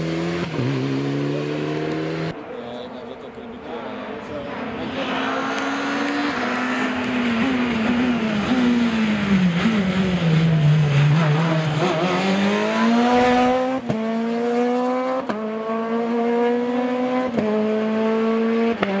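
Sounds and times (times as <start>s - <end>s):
rally car engine accelerating: 0.0s - 2.4s, 4.5s - 19.0s.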